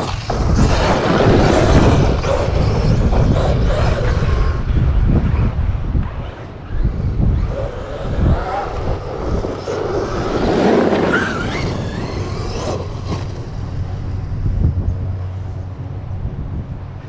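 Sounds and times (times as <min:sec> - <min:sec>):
electric motor whining: 0:00.0 - 0:15.7.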